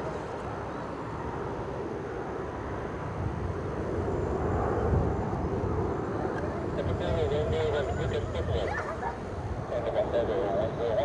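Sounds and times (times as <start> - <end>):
distant jet aircraft noise: 0.0 - 11.0.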